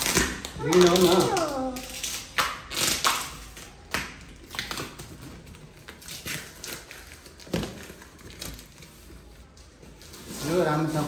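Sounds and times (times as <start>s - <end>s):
packing tape peeling off cardboard: 0.0s - 9.0s.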